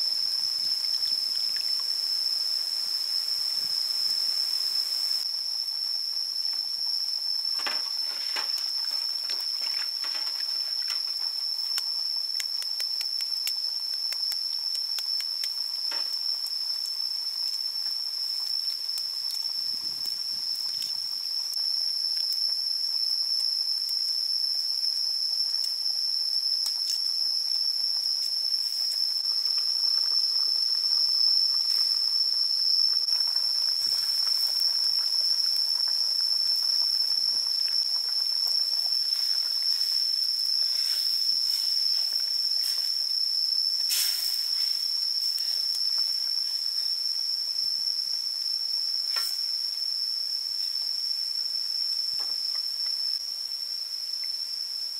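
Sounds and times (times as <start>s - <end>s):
insects droning in chorus: 0.0s - 54.9s.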